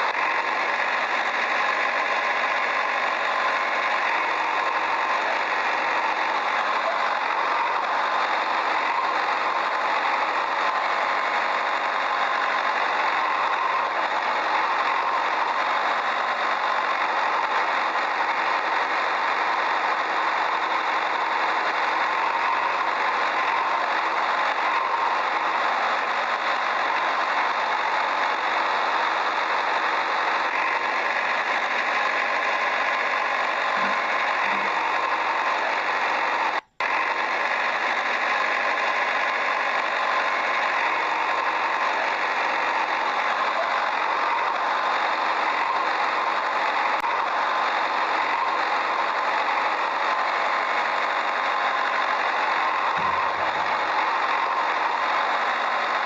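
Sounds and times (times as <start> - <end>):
small motor running: 0.0 - 56.0.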